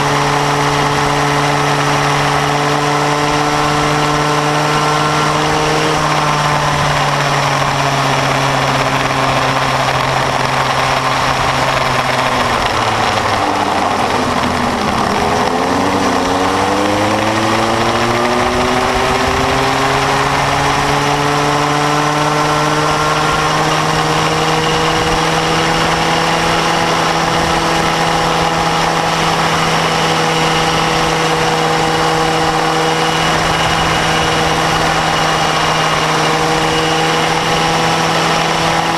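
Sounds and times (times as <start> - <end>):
go-kart engine revving: 0.0 - 38.9
wind noise on microphone: 0.0 - 38.9.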